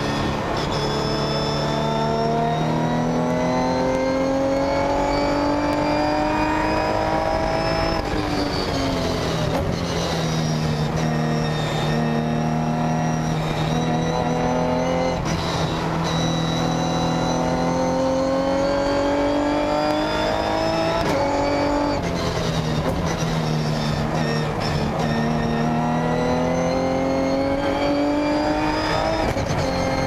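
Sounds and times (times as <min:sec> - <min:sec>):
race car engine accelerating: 0:00.0 - 0:30.0.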